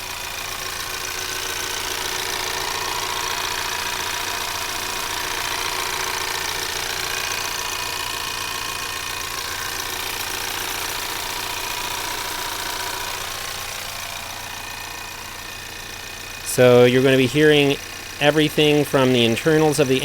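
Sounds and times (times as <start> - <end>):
car engine idling: 0.0 - 20.0
fast even engine ticking: 0.0 - 20.0.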